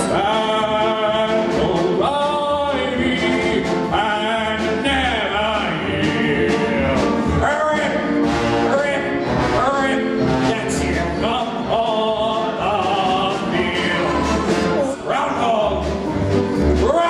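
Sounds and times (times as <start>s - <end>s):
men singing a show tune: 0.0s - 16.0s
live pit orchestra: 0.0s - 17.0s.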